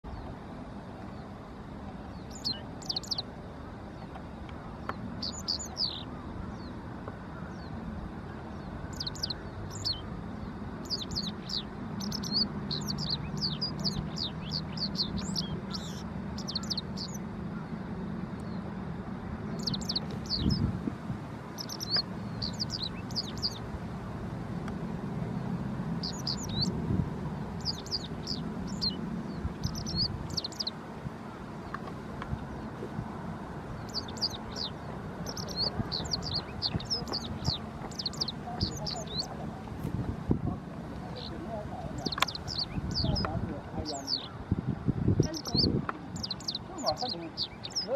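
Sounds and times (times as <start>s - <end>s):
low steady rumble: 0.1s - 47.9s
bird chirping: 2.0s - 3.3s, 3.9s - 17.8s, 19.4s - 20.8s, 21.4s - 32.9s, 33.6s - 40.0s, 40.9s - 44.4s, 45.2s - 47.9s.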